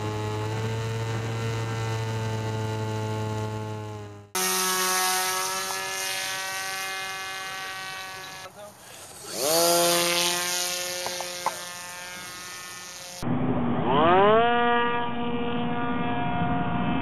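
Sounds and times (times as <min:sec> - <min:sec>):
model airplane motor whine: 0:00.0 - 0:17.0.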